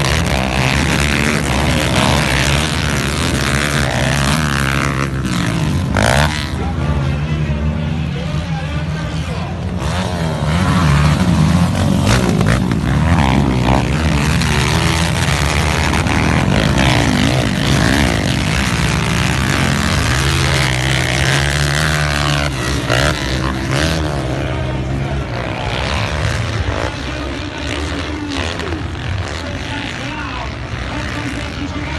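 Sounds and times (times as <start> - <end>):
motocross bike engines revving: 0.0 - 31.9.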